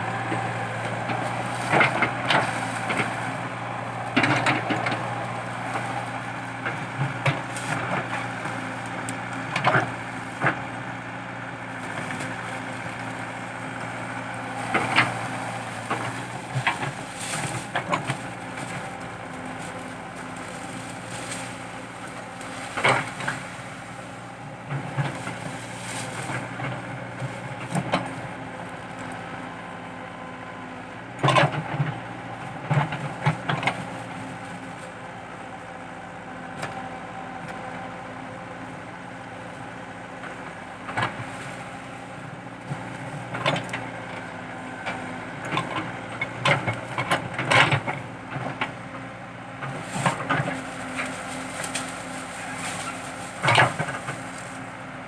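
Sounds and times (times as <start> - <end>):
excavator diesel engine running: 0.0 - 55.0
roots cracking and splintering: 0.1 - 55.0.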